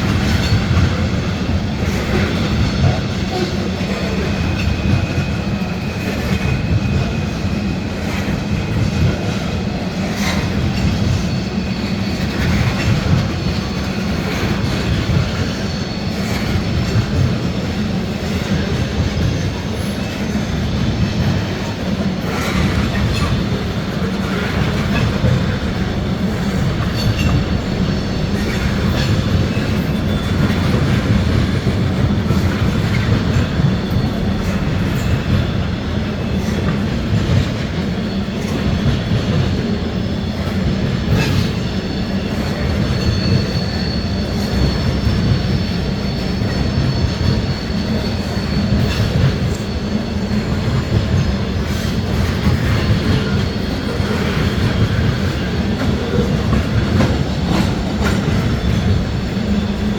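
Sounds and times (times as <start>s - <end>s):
freight train rumbling past: 0.0s - 59.9s
high wheel squeal: 0.1s - 59.9s.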